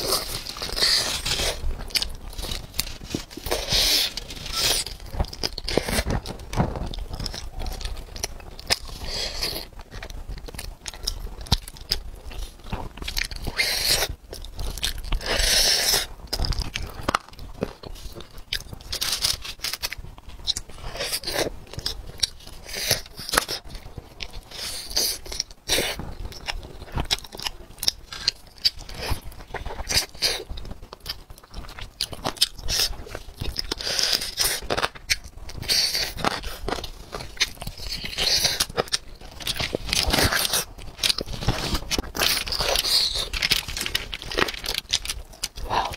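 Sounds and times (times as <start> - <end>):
chewing and biting: 0.0 - 45.9.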